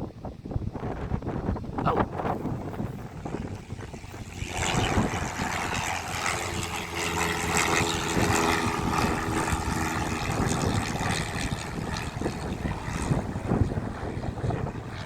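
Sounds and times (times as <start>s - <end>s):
aircraft engine hum: 0.0s - 15.0s
wind buffeting microphone: 0.0s - 15.0s.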